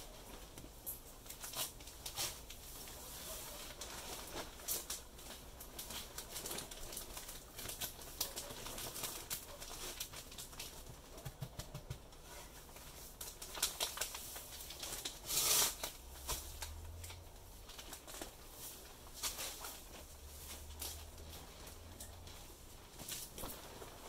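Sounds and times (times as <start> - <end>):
plastic sack rustling: 0.0 - 11.4, 12.0 - 24.0.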